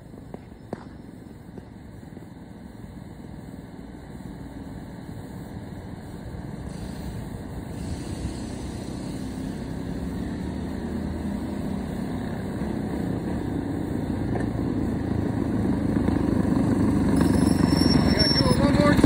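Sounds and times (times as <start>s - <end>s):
minibike engine running: 3.6s - 19.0s.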